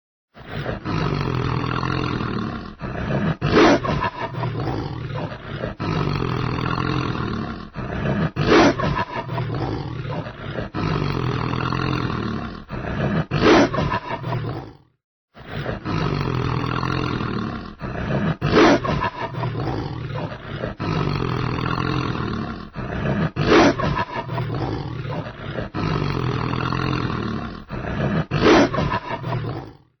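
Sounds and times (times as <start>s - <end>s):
wolf growling: 0.4s - 30.0s
wolf snarling: 0.4s - 30.0s.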